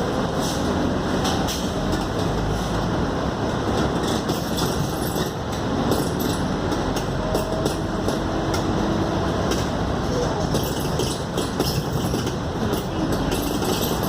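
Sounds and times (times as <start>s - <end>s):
bus engine drone: 0.0s - 14.0s
rattles and clicks from bus body: 0.0s - 14.0s
road noise: 0.0s - 14.0s.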